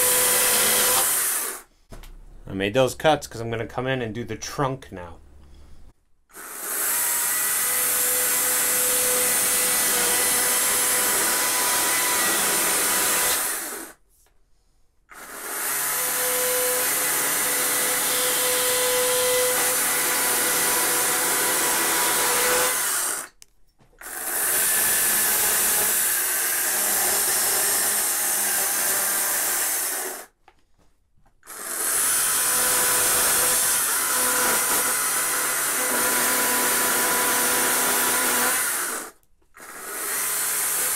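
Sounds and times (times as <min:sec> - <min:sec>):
chainsaw cutting wood: 0:00.0 - 0:01.7, 0:06.3 - 0:14.0, 0:15.2 - 0:23.4, 0:24.0 - 0:30.4, 0:31.4 - 0:40.9.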